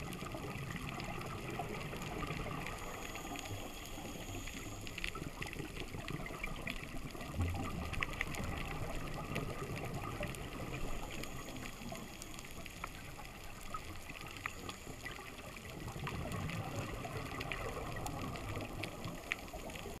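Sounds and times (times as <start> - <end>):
rushing water underwater: 0.0 - 20.0.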